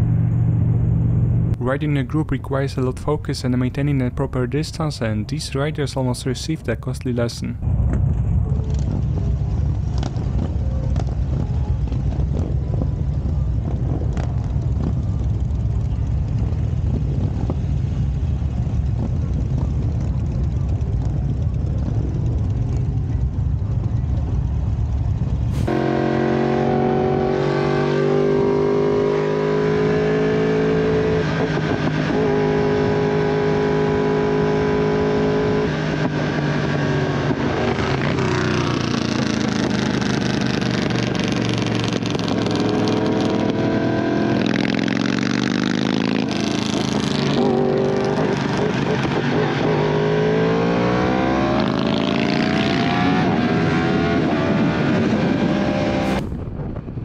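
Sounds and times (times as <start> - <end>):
motorcycle engine revving: 7.9 - 56.7.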